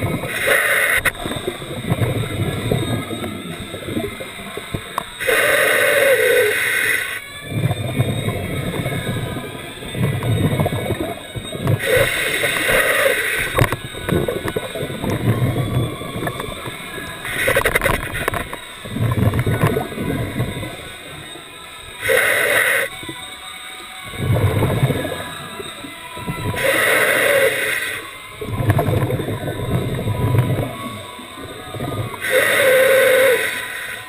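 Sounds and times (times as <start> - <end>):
gurgle of exhaled bubbles: 0.0 - 21.2, 24.0 - 33.6
hissing regulator inhalation: 0.0 - 34.0.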